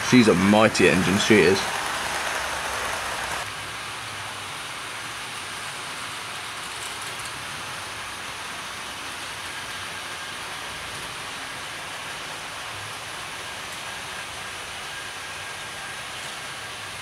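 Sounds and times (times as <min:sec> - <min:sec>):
model trains whirring and rattling: 0:00.0 - 0:17.0.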